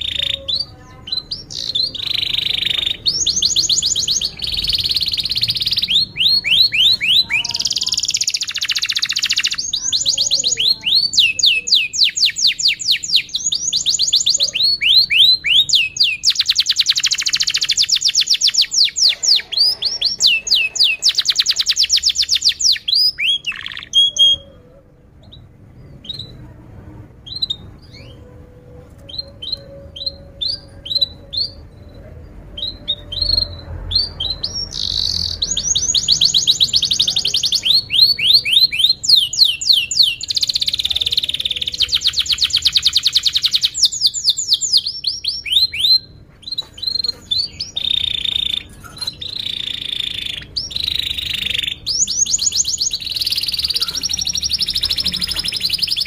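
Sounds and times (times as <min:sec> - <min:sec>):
canary chirps: 0:00.0 - 0:56.0
canary singing trills: 0:00.0 - 0:56.0.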